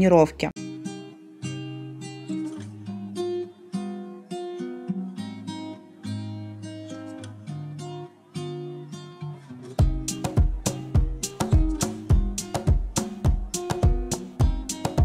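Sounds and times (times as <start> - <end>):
plucked string melody: 0.6 - 15.0.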